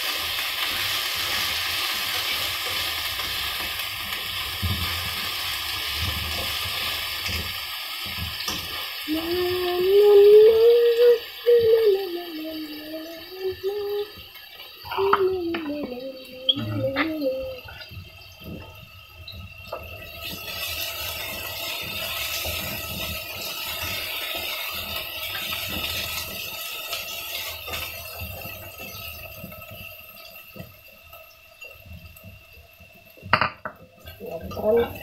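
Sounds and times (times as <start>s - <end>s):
meat sizzling in a frying pan: 0.0s - 35.0s.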